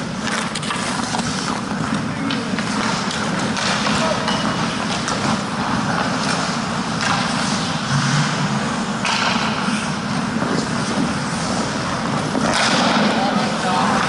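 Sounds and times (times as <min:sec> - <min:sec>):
skate blades scraping ice: 0:00.0 - 0:14.0.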